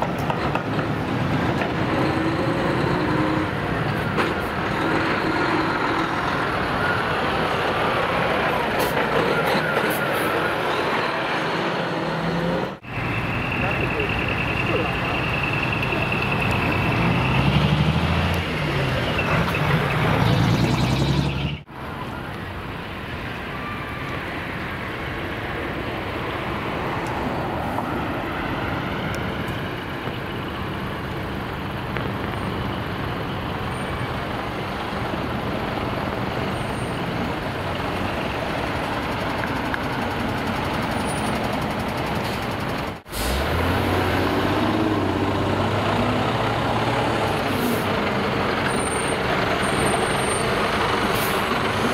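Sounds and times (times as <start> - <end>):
diesel truck engines: 0.0 - 51.9.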